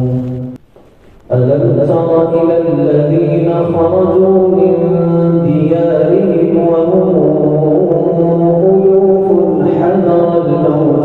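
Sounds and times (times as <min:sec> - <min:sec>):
man chanting melodically: 0:00.0 - 0:00.6, 0:01.3 - 0:11.0.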